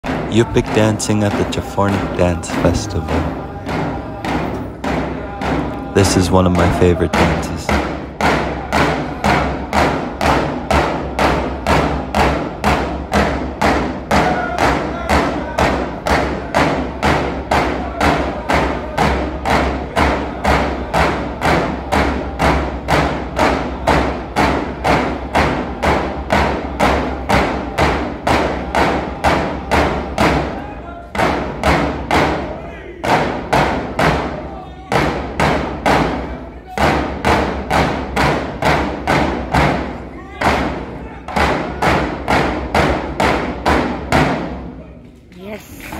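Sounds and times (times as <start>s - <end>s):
frame drums beating steadily: 0.0s - 45.9s.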